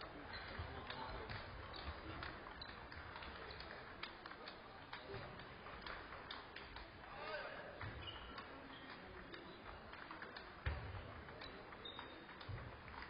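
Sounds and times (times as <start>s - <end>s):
murmur of voices: 0.0s - 13.0s
table tennis balls clicking: 0.1s - 7.1s, 7.8s - 13.0s.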